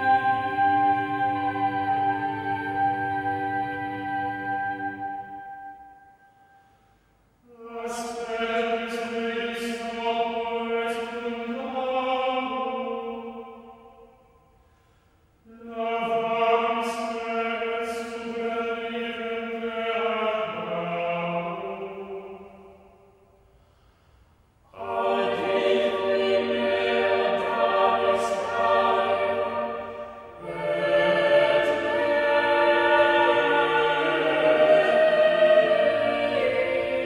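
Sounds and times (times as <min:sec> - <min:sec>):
choir singing slow chords: 0:00.0 - 0:37.0.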